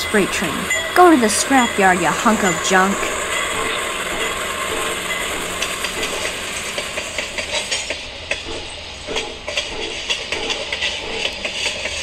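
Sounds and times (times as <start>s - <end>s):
model train rushing past: 0.0s - 12.0s.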